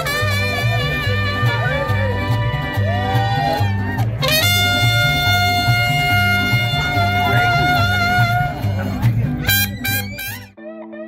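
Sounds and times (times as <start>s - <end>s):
swing jazz music: 0.0s - 10.6s.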